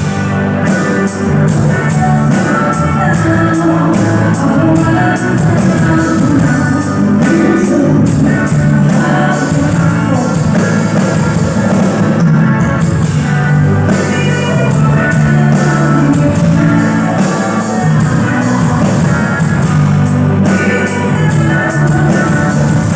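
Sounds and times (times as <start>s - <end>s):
live rock band playing: 0.0s - 22.9s
person singing: 0.0s - 22.9s.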